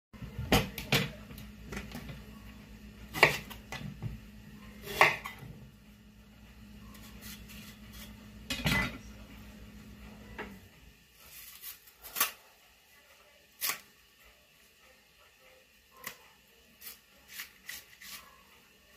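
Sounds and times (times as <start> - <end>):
low steady hum: 0.2 - 18.9.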